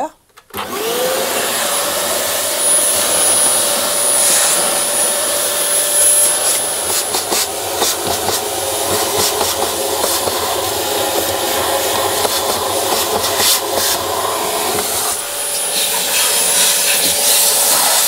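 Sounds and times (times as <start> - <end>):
vacuum cleaner motor whine: 0.5 - 18.0.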